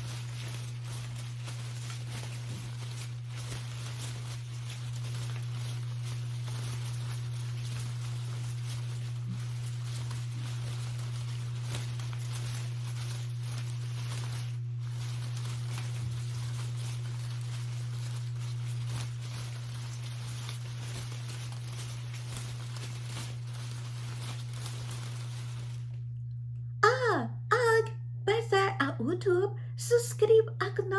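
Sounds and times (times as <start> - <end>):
rain patter: 0.0 - 26.2
low hum: 0.0 - 30.9.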